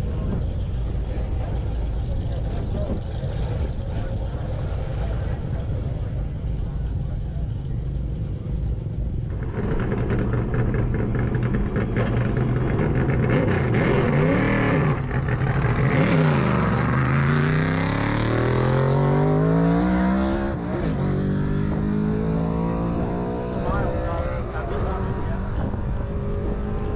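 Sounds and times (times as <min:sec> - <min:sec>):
car engine at full throttle: 0:00.0 - 0:26.9.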